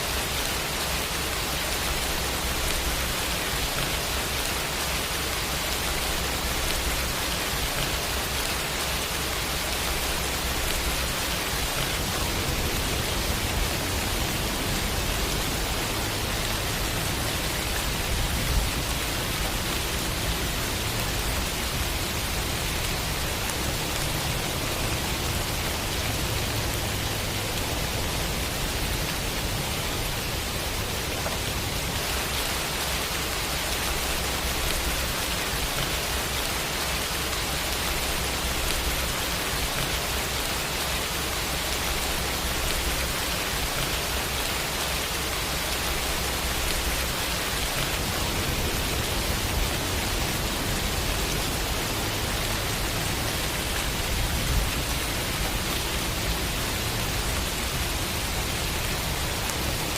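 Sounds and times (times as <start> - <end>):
steady rainfall hiss: 0.0 - 59.9.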